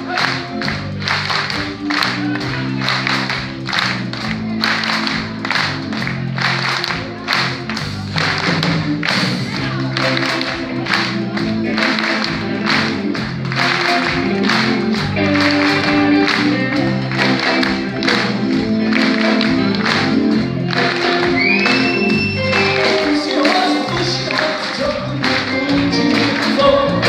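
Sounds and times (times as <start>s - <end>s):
bass guitar: 0.0s - 27.0s
drums keeping a steady beat: 0.0s - 27.0s
electric guitar: 0.0s - 27.0s
keyboards: 0.0s - 27.0s.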